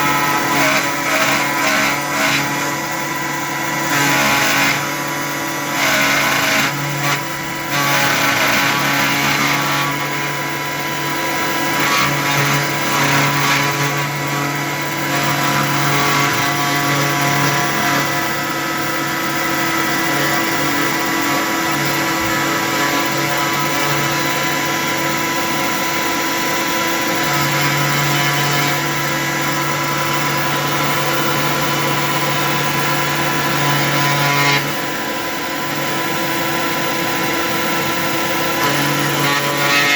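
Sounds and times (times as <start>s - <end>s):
rough irregular noise: 0.0s - 34.7s
motor hum: 0.0s - 39.9s
router whining tones: 0.0s - 39.9s.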